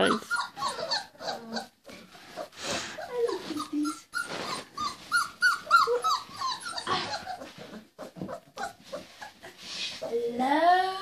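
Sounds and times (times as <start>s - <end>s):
puppies squeaking: 0.0s - 10.2s
puppy whining: 0.0s - 10.2s.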